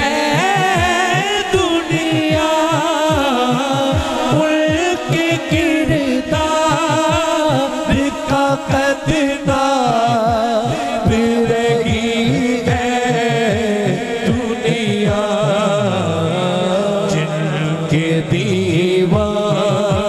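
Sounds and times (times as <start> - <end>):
low rhythmic backing: 0.0 - 20.0
solo voice singing through pa: 0.0 - 20.0.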